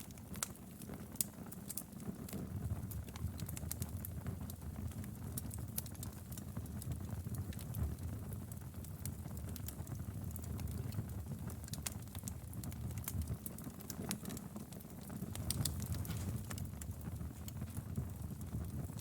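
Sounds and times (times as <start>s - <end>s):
wood crackling and popping: 0.0s - 19.0s
wood fire burning: 0.0s - 19.0s.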